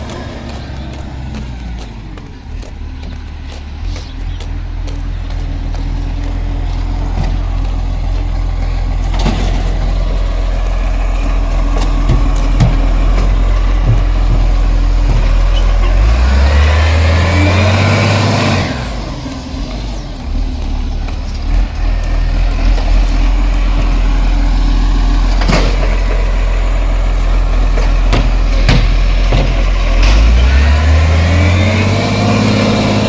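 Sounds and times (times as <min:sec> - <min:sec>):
engine revving with rushing noise: 0:00.0 - 0:33.0
garbage truck engine running: 0:00.0 - 0:33.0.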